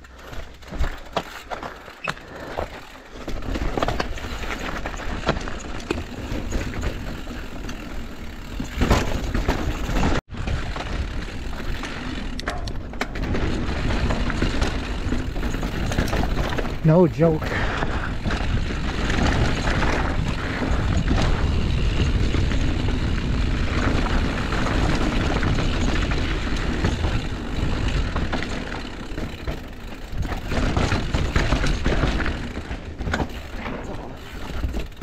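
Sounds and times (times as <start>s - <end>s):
bike clicks and rattles: 0.0s - 35.0s
bike tyres rolling over dirt and rock: 0.0s - 35.0s.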